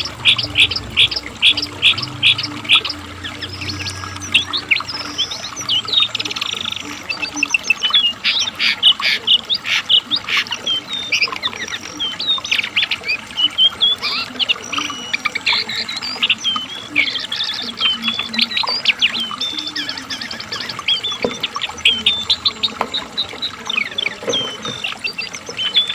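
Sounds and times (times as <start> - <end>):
bird singing fast varied song: 0.0 - 25.9.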